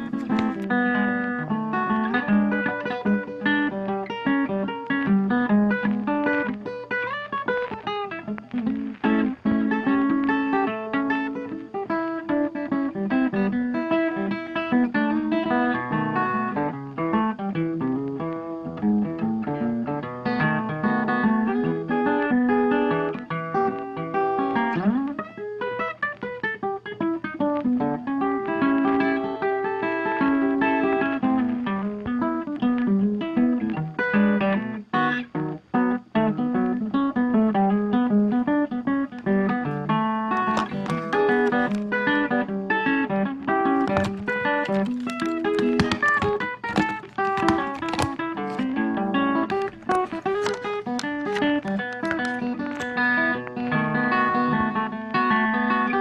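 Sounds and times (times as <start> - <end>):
acoustic guitar plucked notes: 0.0 - 56.0.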